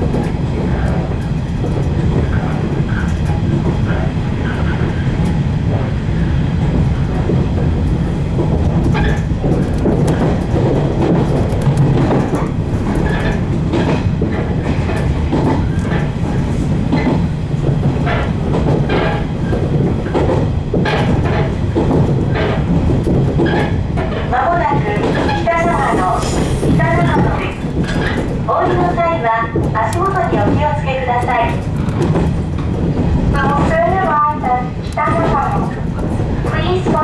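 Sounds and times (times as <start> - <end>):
electric train running hum: 0.0 - 37.0
wheels clicking over rail joints: 0.0 - 37.0.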